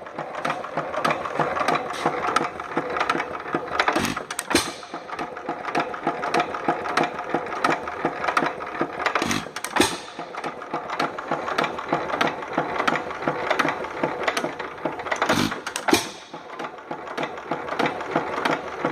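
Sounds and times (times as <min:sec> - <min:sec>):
engine mechanical clatter: 0:00.0 - 0:18.9.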